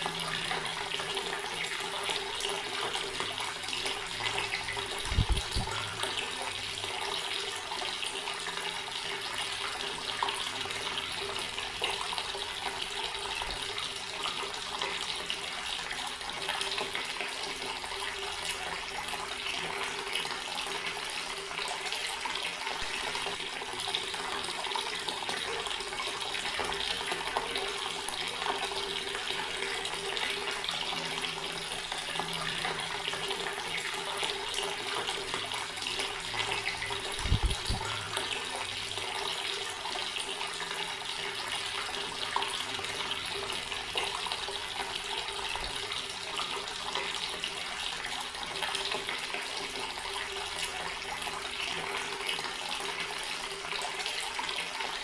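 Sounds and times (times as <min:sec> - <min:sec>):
water tap running and splashing: 0:00.0 - 0:55.0.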